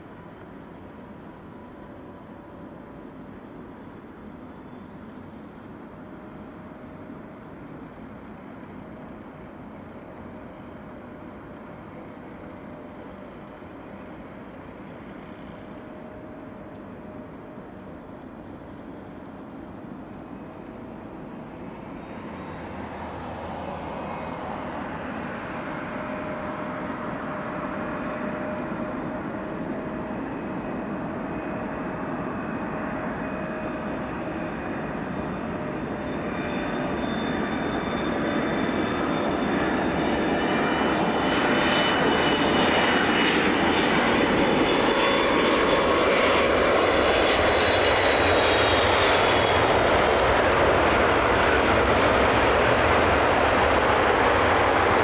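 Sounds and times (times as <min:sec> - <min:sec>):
jet engines roaring and whining: 0:00.1 - 0:55.0.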